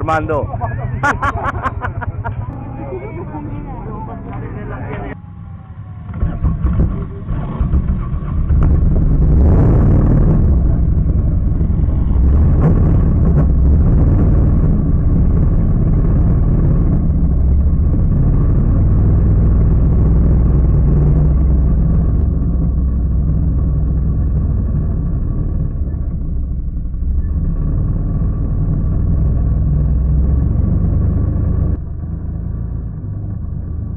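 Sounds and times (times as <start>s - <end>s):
quad bike engines rumbling: 0.0s - 33.9s.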